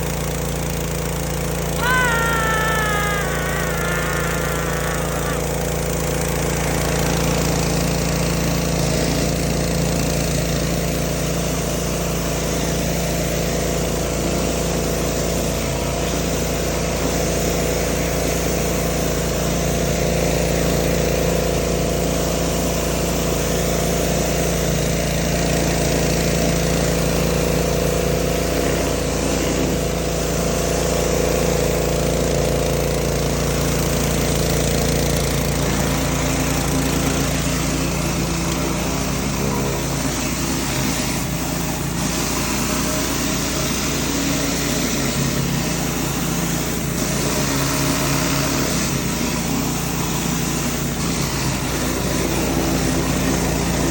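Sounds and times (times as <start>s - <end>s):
pressure washer engine running: 0.0s - 53.9s.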